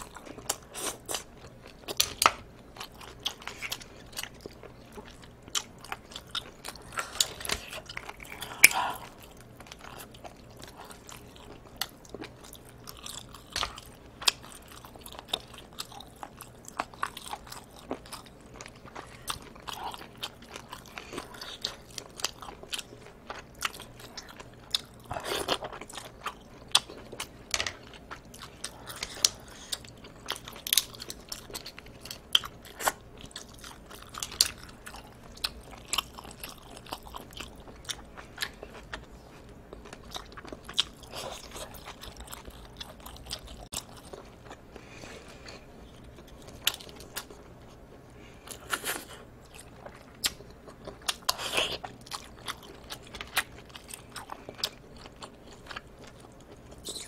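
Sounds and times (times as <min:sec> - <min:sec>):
chewing and biting seafood: 0:00.0 - 0:47.8, 0:48.4 - 0:57.0.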